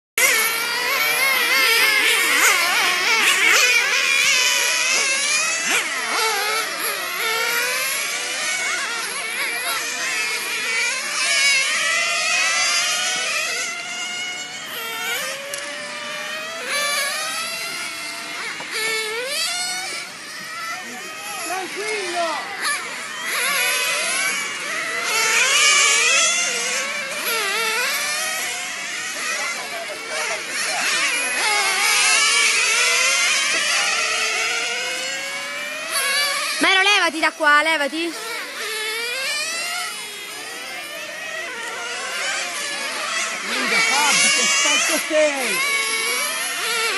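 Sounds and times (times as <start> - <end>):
rc car engines whining: 0.2 - 46.9.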